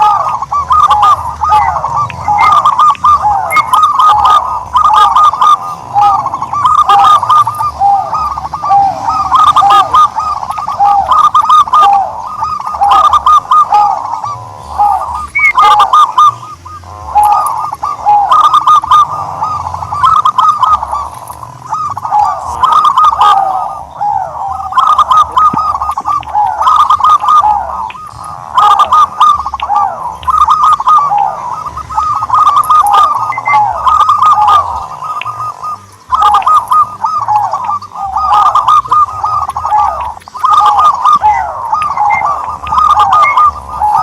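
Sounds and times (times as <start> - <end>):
doves cooing: 0.0 - 44.0.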